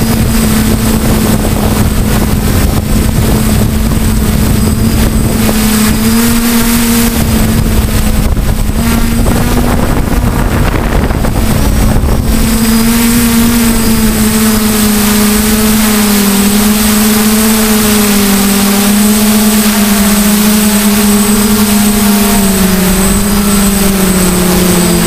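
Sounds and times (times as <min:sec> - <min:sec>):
drone propellers buzzing: 0:00.0 - 0:25.0.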